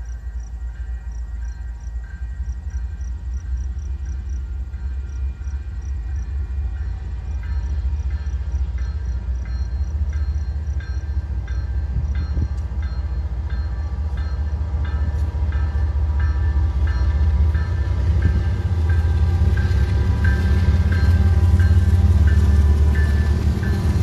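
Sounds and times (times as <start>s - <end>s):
diesel locomotive rumble: 0.0s - 24.0s
railroad crossing bell dinging: 0.0s - 24.0s.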